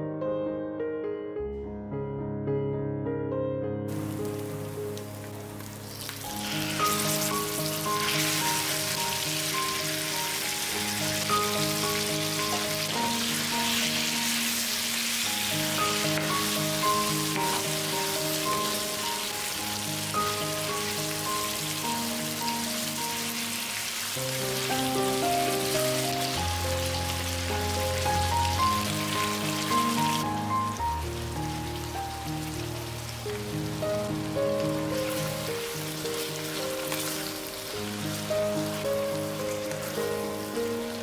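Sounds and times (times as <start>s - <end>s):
background music: 0.0s - 41.0s
food sizzling in hot oil: 3.9s - 41.0s.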